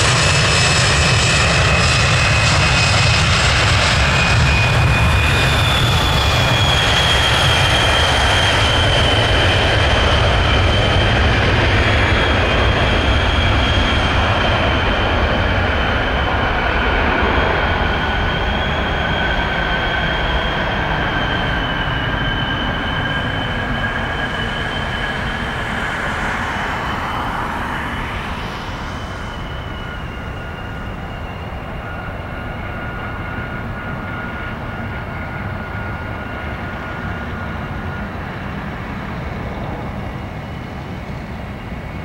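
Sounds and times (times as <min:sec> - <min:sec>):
jet engines at takeoff thrust: 0:00.0 - 0:42.0.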